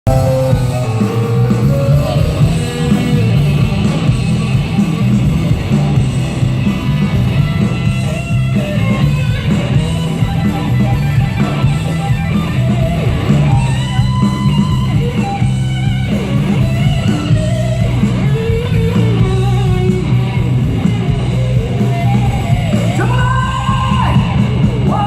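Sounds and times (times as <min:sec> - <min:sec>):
electric guitar: 0:00.0 - 0:25.0
heavy bass: 0:00.0 - 0:25.0
live rock band playing: 0:00.0 - 0:25.0.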